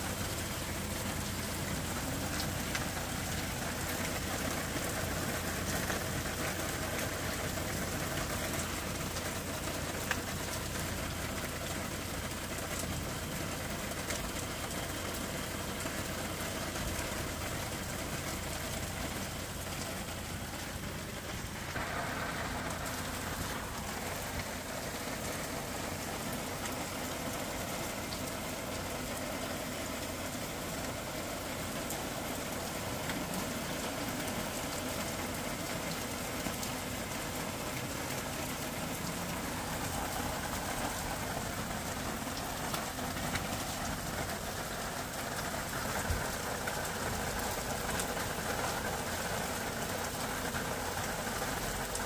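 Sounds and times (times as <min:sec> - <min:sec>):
masala sizzling in a frying pan: 0:00.0 - 0:52.0.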